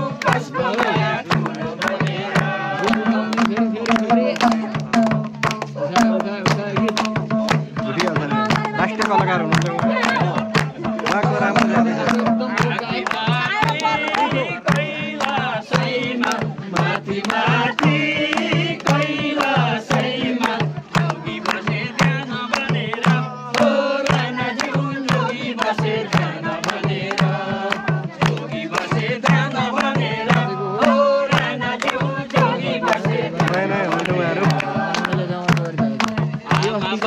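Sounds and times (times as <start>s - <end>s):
group singing folk song: 0.0s - 37.0s
hand drum beat: 0.0s - 37.0s.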